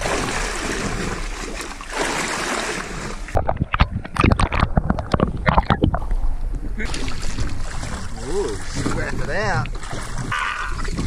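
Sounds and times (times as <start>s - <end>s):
muffled underwater splashes and knocks: 0.0s - 11.0s
sea noise: 0.0s - 11.0s
wind: 0.0s - 11.0s.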